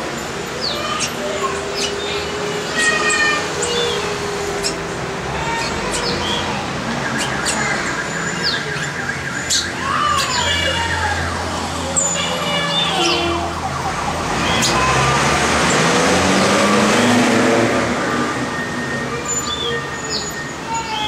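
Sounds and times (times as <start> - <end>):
city traffic noise: 0.0 - 21.0
passing vehicle engine hum: 0.0 - 21.0
birds chirping and whistling: 0.3 - 21.0.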